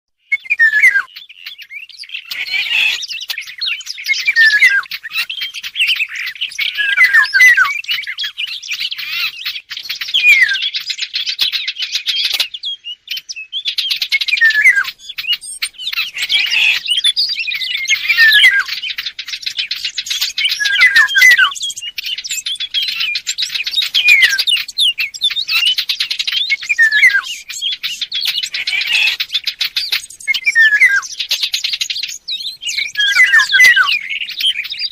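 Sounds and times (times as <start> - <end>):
birds chirping and twittering: 0.1 - 34.9
falling whistled bird notes: 0.2 - 34.9.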